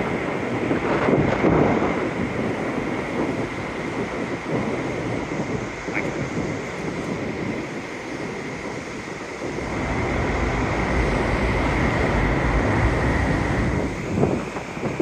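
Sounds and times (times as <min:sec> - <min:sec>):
wind roaring: 0:00.0 - 0:15.0.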